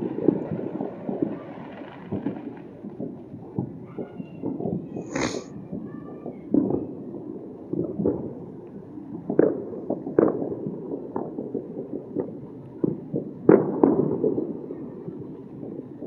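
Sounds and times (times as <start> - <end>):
distant fireworks bangs: 0.0 - 16.0.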